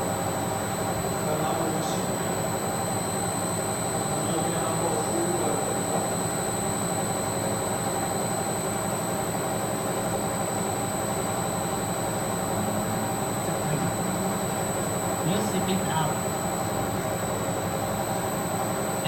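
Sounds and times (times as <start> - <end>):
machine whining and hissing: 0.0 - 19.0.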